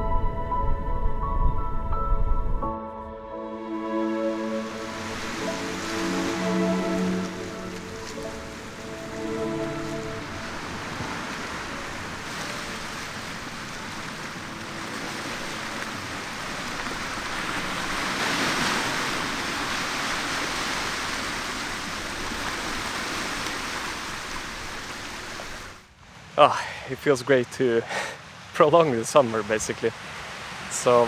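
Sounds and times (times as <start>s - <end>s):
sea waves breaking ashore: 3.7s - 31.0s.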